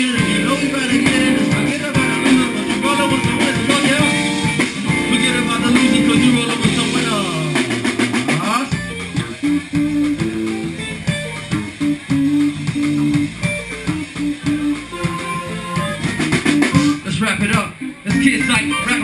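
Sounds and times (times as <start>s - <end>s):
electric guitar riffing: 0.0s - 17.1s
bass guitar riffing: 0.0s - 17.4s.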